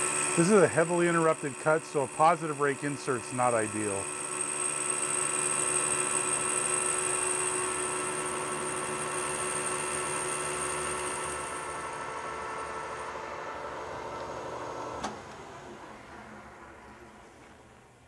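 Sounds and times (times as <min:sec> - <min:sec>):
metal lathe cutting whine: 0:00.0 - 0:14.6.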